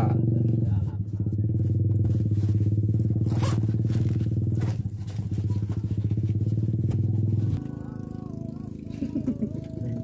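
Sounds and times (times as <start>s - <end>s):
small engine running steadily: 0.0s - 10.0s.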